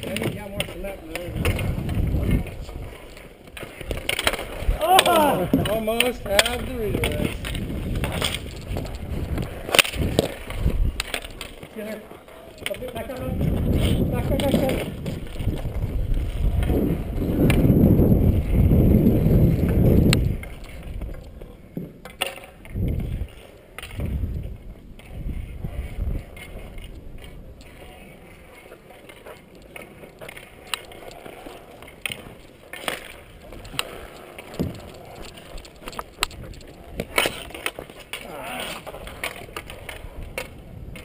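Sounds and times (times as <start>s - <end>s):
hockey sticks clacking ball: 0.0s - 18.5s, 19.2s - 41.0s.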